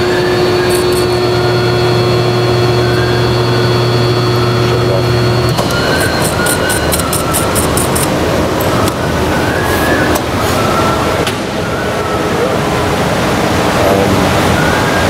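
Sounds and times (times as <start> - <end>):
electric motor running: 0.0 - 15.0
electrical hum: 0.0 - 15.0.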